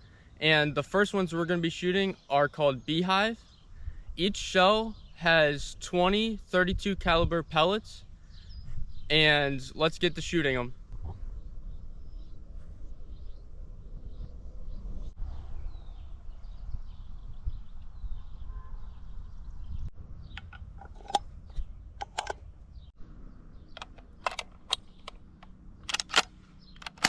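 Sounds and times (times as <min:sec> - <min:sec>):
low steady rumble: 0:04.8 - 0:27.0.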